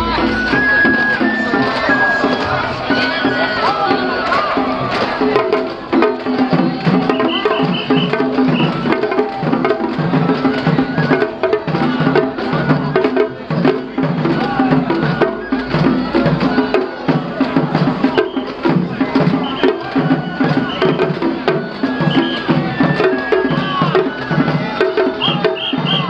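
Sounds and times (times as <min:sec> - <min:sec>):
drums beating steady rhythm: 0:00.0 - 0:26.0.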